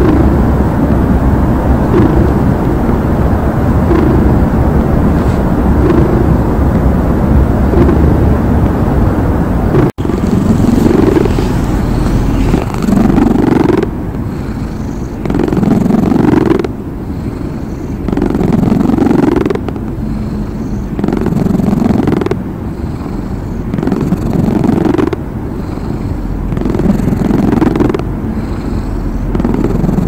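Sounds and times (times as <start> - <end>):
cat purring: 0.0 - 1.0, 1.7 - 8.5, 9.7 - 30.0.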